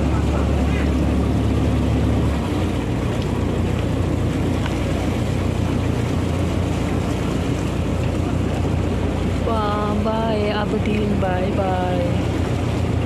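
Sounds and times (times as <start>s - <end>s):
boat engine running: 0.0s - 13.0s
water rushing: 0.0s - 13.0s
wind: 0.0s - 13.0s.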